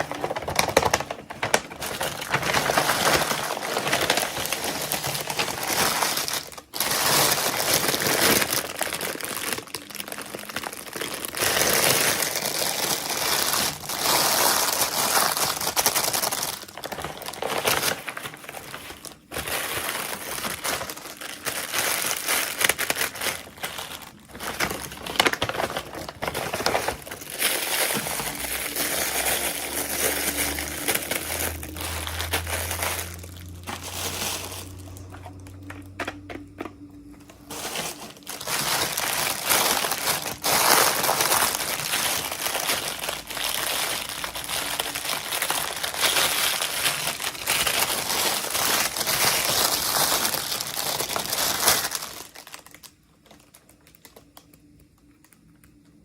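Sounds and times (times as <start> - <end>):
plastic packaging crinkling: 0.0 - 56.0.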